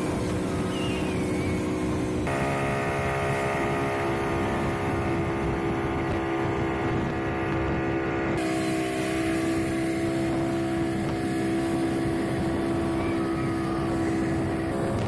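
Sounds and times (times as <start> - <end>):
outboard motor droning: 0.0 - 15.0
rushing boat wake: 0.0 - 15.0
wind on microphone: 0.0 - 15.0.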